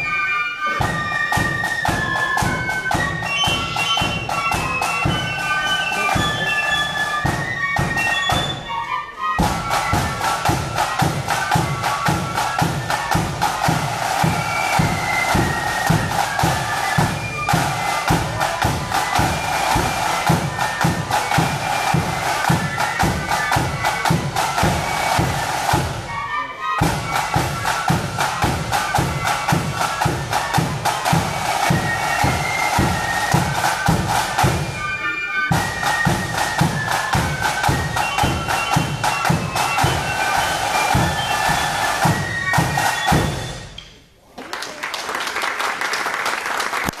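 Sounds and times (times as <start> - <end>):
flute melody: 0.0 - 44.0
snare drums: 0.0 - 44.0.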